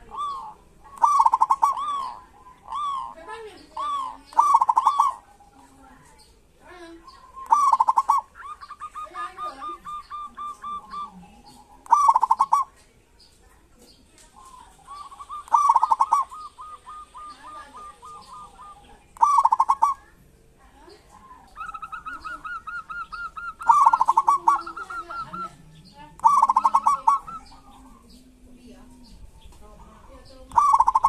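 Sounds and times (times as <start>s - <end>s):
doves calling in rattling bursts: 0.0s - 31.0s.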